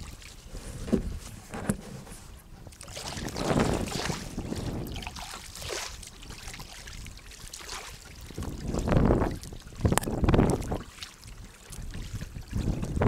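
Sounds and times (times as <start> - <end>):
kayak paddle strokes in water: 0.0 - 13.0.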